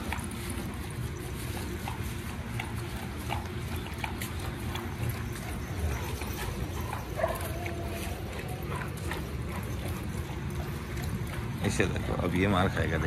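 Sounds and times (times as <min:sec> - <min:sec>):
dog paws scuffing dirt: 0:00.0 - 0:13.0.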